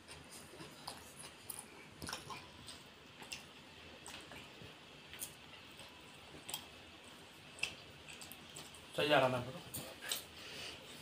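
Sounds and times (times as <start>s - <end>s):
mouth chewing sounds: 0.0s - 9.0s.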